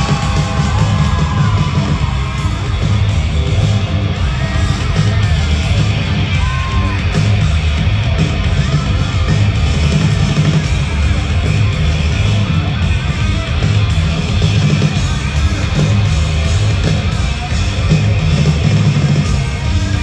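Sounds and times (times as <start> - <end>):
electric guitar: 0.0 - 20.0
heavy bass: 0.0 - 20.0
live rock band playing: 0.0 - 20.0.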